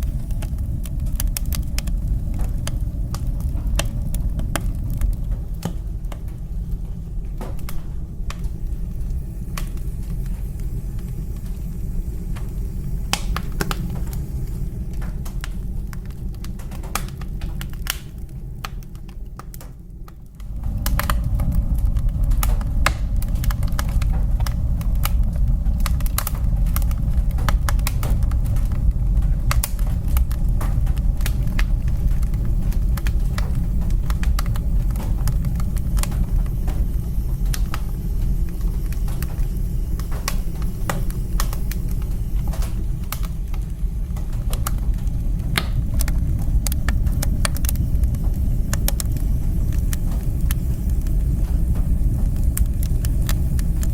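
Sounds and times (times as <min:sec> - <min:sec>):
low rumble of fire: 0:00.0 - 0:53.9
wood fire crackling: 0:00.0 - 0:53.9.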